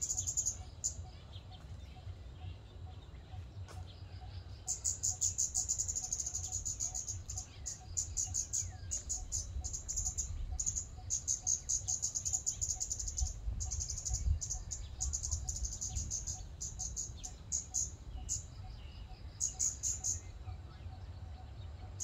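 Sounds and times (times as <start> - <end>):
bird sharp high ticking calls: 0.0 - 22.0
low background rumble: 0.0 - 22.0.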